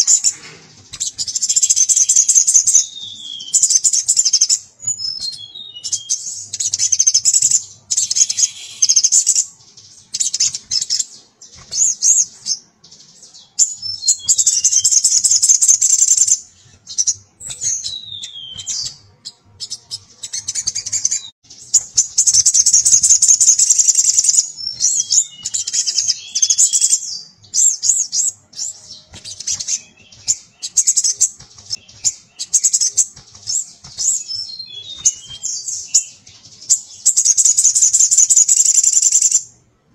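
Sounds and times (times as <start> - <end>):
bird singing rapid chattering: 0.0 - 39.6.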